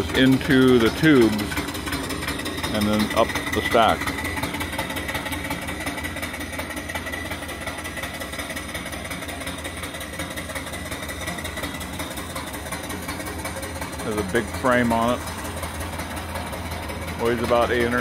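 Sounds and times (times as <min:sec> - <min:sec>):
steam engine running: 0:00.0 - 0:18.0.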